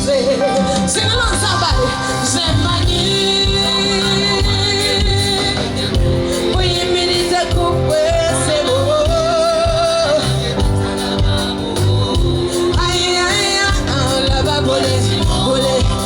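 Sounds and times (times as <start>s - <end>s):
live band music: 0.0s - 16.0s
person singing: 0.0s - 16.0s
pulsing bass beat: 2.5s - 16.0s.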